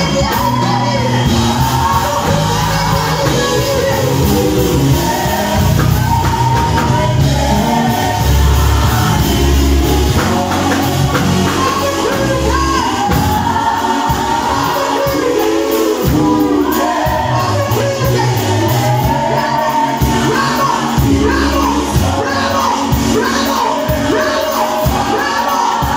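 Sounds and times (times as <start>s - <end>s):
gospel vocal group singing: 0.0s - 25.9s
musical backing with deep bass: 0.0s - 25.9s.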